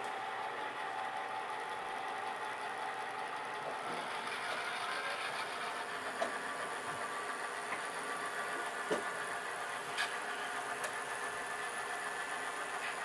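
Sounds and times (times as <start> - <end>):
diesel engine sound from small speaker: 0.0 - 13.0
model train running on rails: 0.0 - 13.0.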